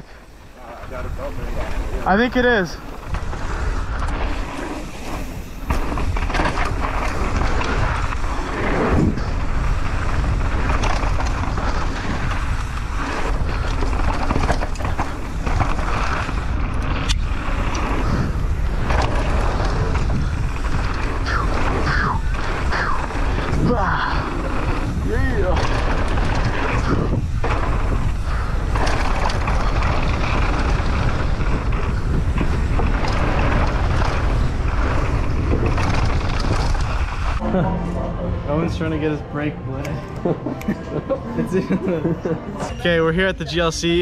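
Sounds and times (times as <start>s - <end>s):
bike tyres and frame rattling: 0.0s - 37.4s
wind buffeting microphone: 0.0s - 39.2s.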